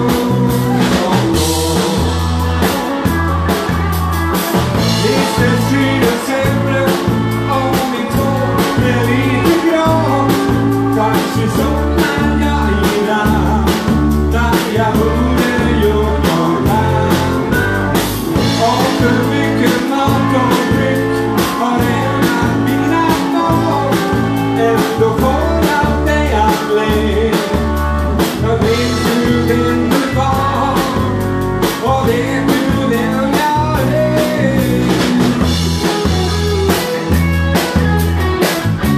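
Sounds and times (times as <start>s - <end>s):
man singing into microphone: 0.0s - 36.4s
bass line: 0.0s - 38.9s
drum kit steady beat: 0.0s - 38.9s
electric guitar: 0.0s - 38.9s.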